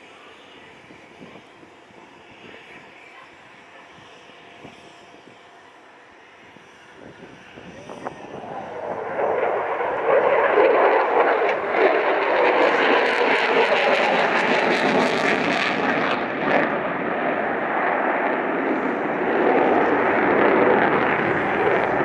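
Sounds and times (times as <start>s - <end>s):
jet engines in afterburner: 0.0s - 22.0s.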